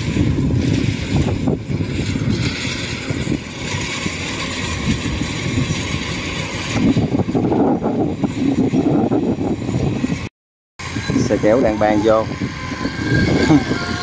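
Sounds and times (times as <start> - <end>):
combine harvester engine rumble: 0.0 - 14.0.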